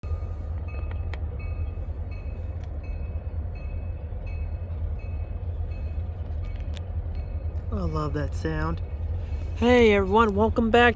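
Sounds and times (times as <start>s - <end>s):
diesel locomotives rumbling: 0.0s - 10.9s.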